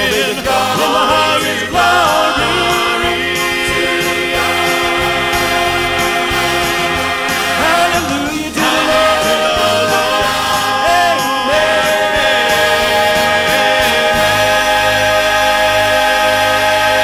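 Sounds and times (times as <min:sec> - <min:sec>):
gospel choir singing: 0:00.0 - 0:17.0
instrumental accompaniment: 0:00.0 - 0:17.0.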